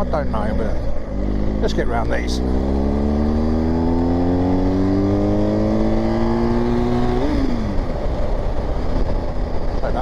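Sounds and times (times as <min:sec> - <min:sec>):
low wind rumble: 0:00.0 - 0:10.0
motorcycle engine accelerating: 0:00.0 - 0:10.0.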